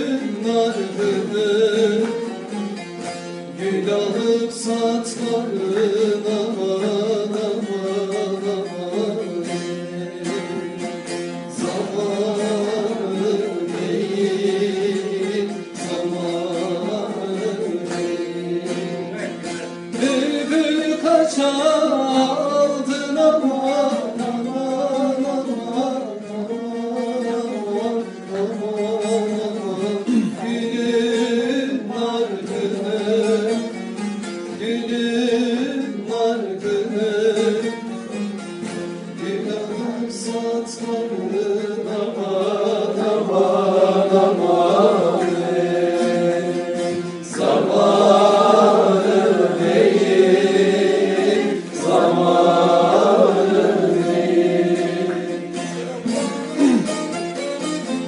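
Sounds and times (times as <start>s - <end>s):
instrumental accompaniment: 0.0s - 58.0s
man singing folk song: 0.0s - 58.0s.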